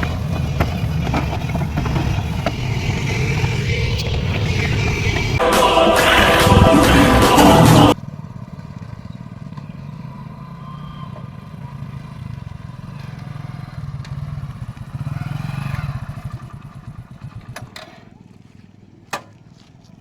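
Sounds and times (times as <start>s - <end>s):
excavator diesel engine running: 0.0s - 18.5s.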